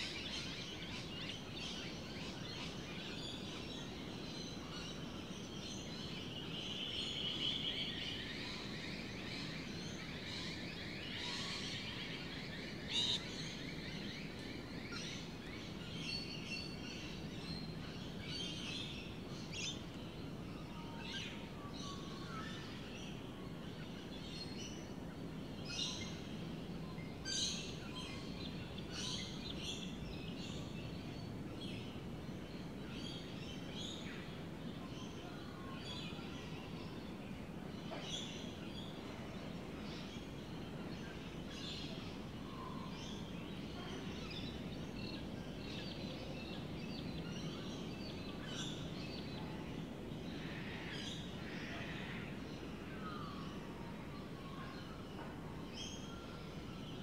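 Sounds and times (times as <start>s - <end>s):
low background noise: 0.0s - 57.0s.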